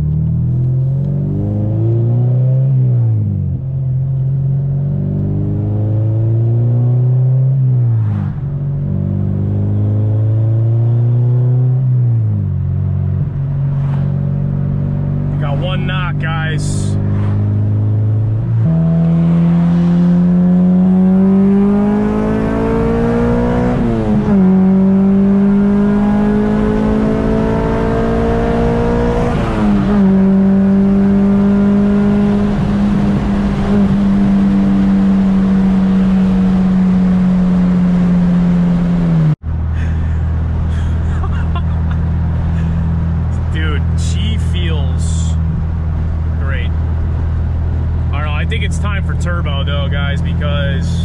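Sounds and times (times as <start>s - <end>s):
car engine accelerating through gears: 0.0s - 15.9s, 16.9s - 51.0s.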